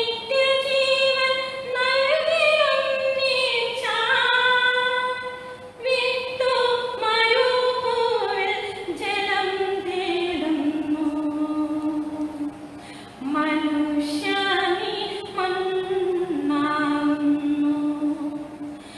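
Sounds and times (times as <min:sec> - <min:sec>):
woman singing unaccompanied: 0:00.0 - 0:18.9.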